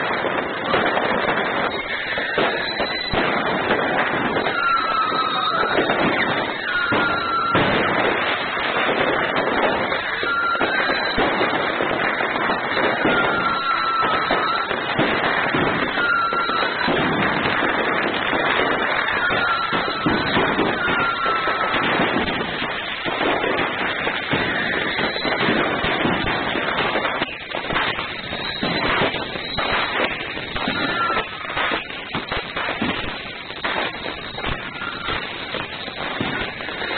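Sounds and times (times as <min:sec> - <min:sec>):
firework bang: 0:00.0 - 0:36.9
fireworks crackling and popping: 0:00.0 - 0:36.9
high firework whistle: 0:00.0 - 0:36.9.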